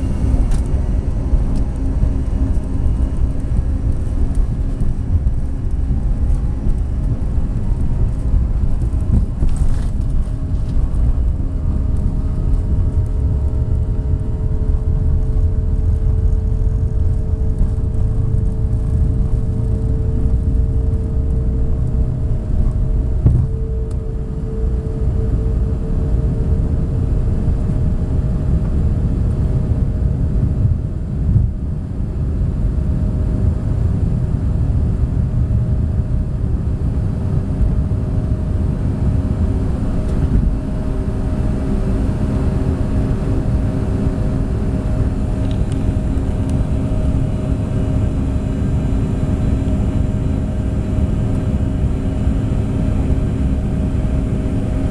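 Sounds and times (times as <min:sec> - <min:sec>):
jet cabin engine rumble: 0:00.0 - 0:54.9.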